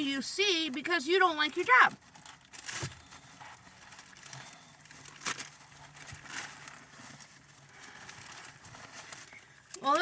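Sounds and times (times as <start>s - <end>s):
paper food wrapping rustling: 0.6s - 10.0s.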